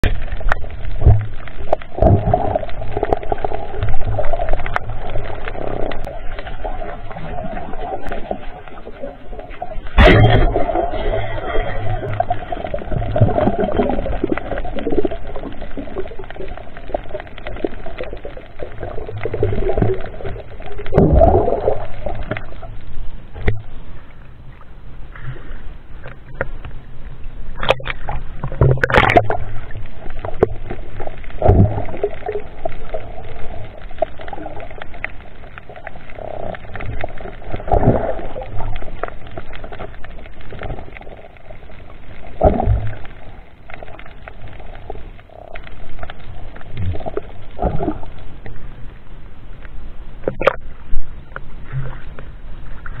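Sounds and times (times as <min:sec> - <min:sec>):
low rumble: 0:00.0 - 0:50.2
water sloshing and gurgling: 0:00.0 - 0:53.0.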